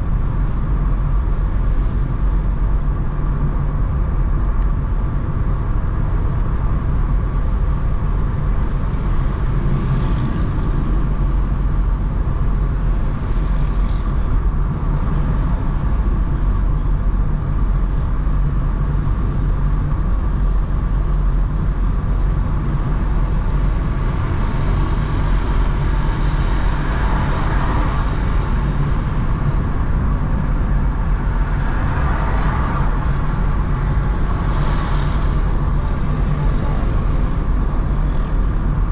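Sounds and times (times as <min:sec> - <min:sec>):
car driving rumble: 0:00.0 - 0:38.9
vehicles passing: 0:00.0 - 0:38.9.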